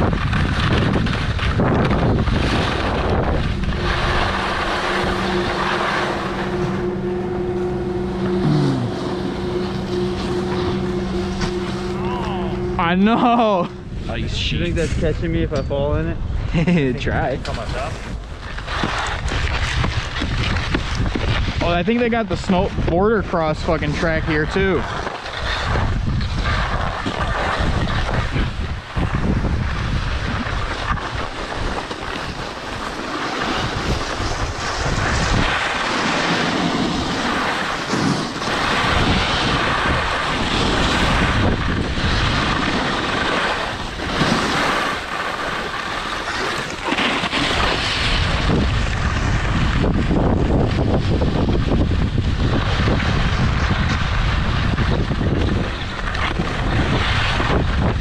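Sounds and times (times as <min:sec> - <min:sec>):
skis scraping on hard snow: 0:00.0 - 0:07.0, 0:17.1 - 0:58.0
wind buffeting microphone: 0:00.0 - 0:58.0.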